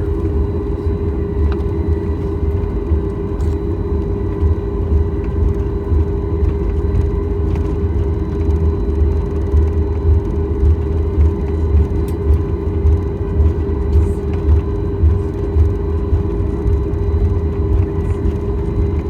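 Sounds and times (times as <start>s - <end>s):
aircraft cabin engine rumble: 0.0s - 19.0s.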